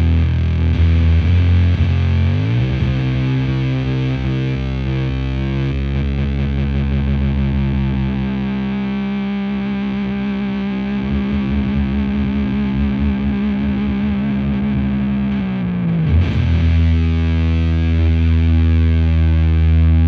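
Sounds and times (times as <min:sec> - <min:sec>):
fuzzed electric guitar notes: 0:00.0 - 0:20.0.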